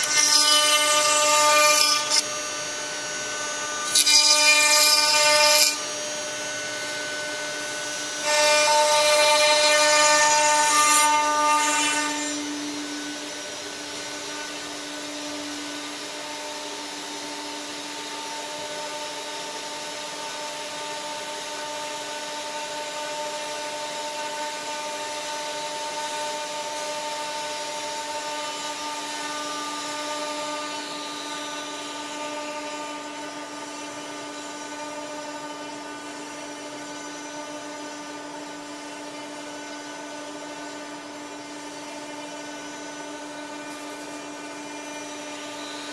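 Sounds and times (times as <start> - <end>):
router spindle milling wood: 0.0 - 45.9.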